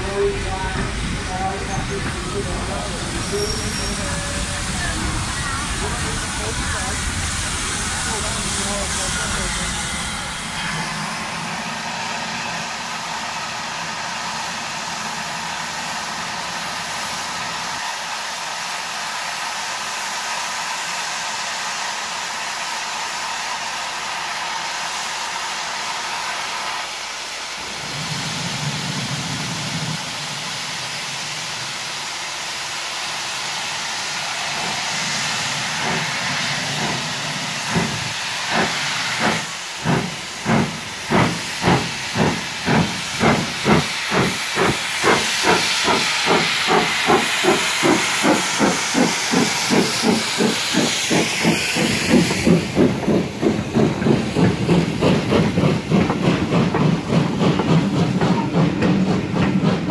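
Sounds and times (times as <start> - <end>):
steam hissing: 0.0 - 59.9
steam locomotive exhaust chuffs: 0.0 - 59.9.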